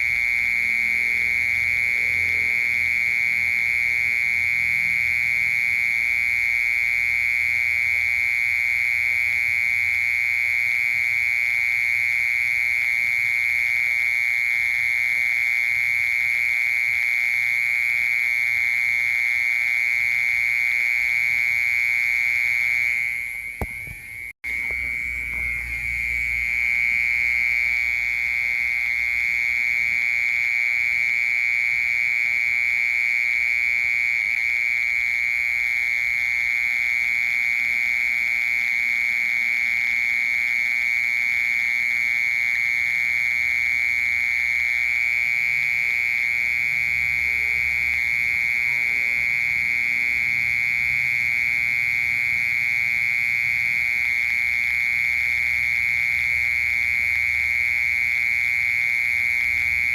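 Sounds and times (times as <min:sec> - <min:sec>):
mole cricket trilling: 0:00.0 - 0:59.9.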